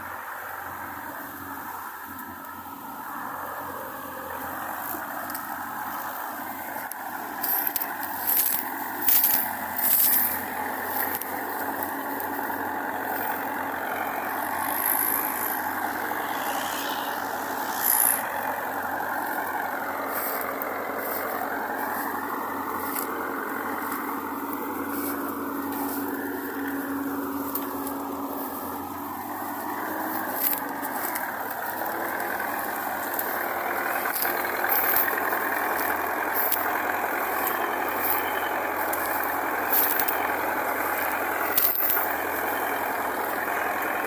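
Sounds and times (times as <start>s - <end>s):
diesel machinery running: 0.0s - 44.0s.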